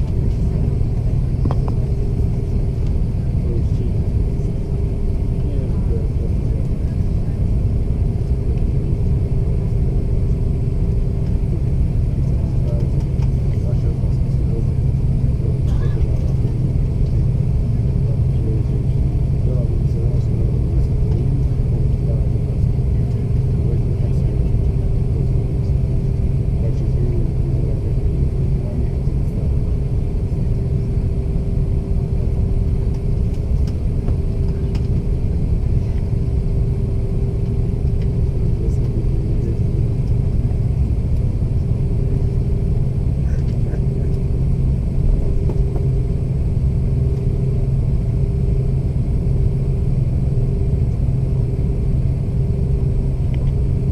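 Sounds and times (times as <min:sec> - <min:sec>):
jet engine rumble in cabin: 0:00.0 - 0:53.9
steady hum: 0:00.0 - 0:53.9.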